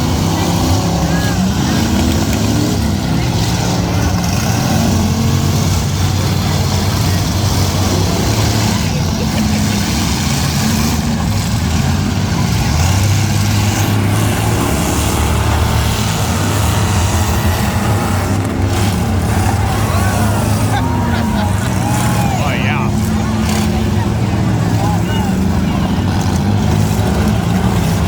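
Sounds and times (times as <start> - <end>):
car engines revving together: 0.0 - 28.0.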